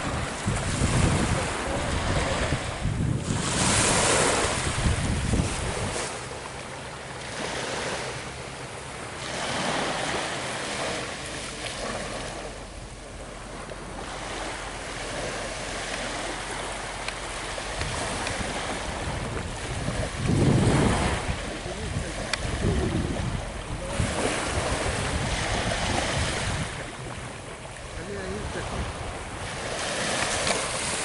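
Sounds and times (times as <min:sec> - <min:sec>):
wind buffeting microphone: 0:00.0 - 0:06.5, 0:09.0 - 0:31.0
ocean surf washing ashore: 0:00.0 - 0:31.0.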